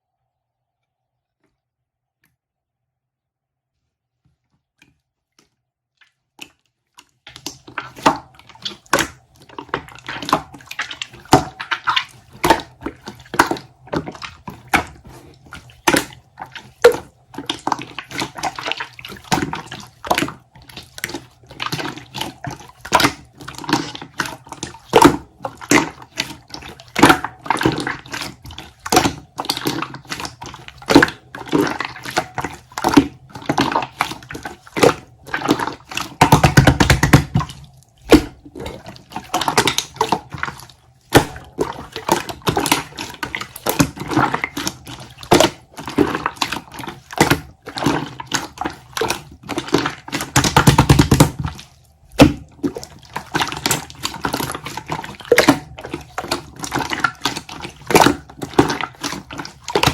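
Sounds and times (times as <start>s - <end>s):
wet sloshing and squishing: 4.2s - 59.9s.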